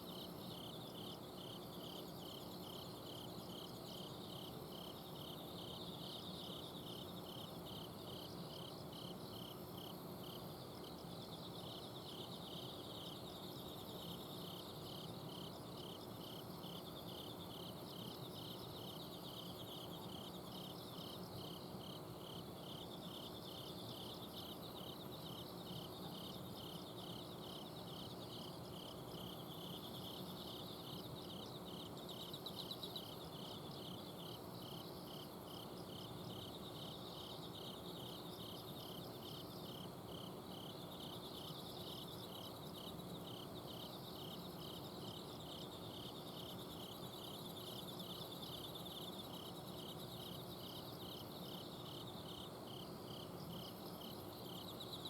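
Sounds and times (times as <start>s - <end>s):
cricket chirping: 0.0s - 55.0s
faint insect trills: 0.0s - 55.0s.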